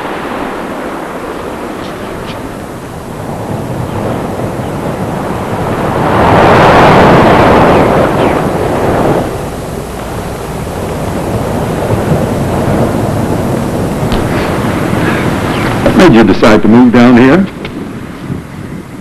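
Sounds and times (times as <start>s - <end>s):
surf hiss: 0.0s - 19.0s
wave breaking and washing in: 0.0s - 19.0s
wind: 0.0s - 19.0s.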